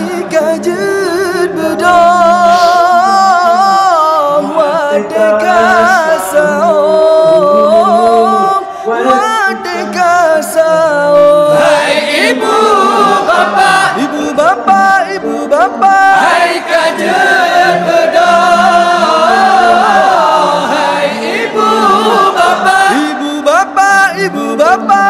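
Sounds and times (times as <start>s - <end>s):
person singing melody: 0.0s - 25.0s.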